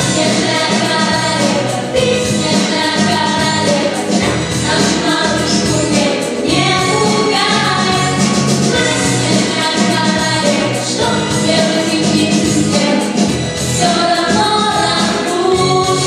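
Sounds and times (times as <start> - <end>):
children singing into microphones: 0.0 - 16.0
loud instrumental accompaniment: 0.0 - 16.0.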